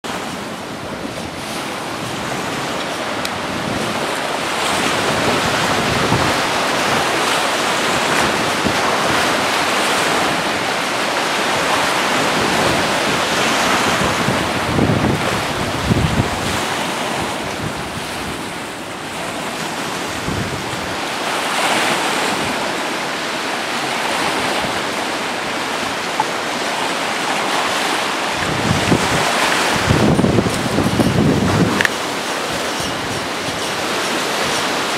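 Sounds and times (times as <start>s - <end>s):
storm wind: 0.0s - 34.9s
waves washing against a sea wall: 0.0s - 34.9s
wind buffeting microphone: 0.1s - 22.8s, 23.7s - 34.9s.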